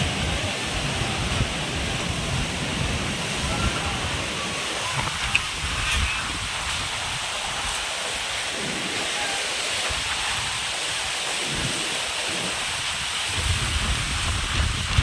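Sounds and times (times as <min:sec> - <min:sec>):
heavy rain falling: 0:00.0 - 0:15.0
wind gusting against microphone: 0:00.0 - 0:15.0.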